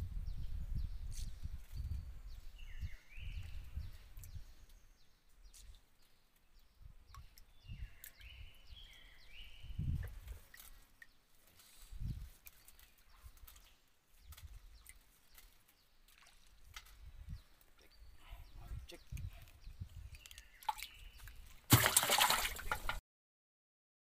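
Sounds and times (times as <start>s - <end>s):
birds chirping: 0.3s - 22.9s.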